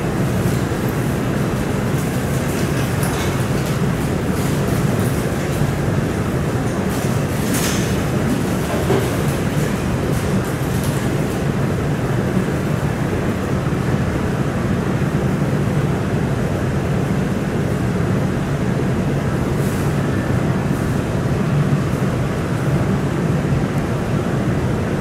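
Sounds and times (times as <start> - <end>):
airplane cabin drone in flight: 0.0 - 25.0.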